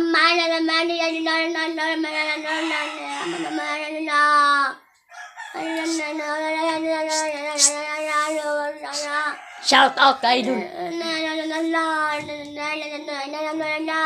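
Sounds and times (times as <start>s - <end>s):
boy singing: 0.0s - 4.8s, 5.5s - 14.0s.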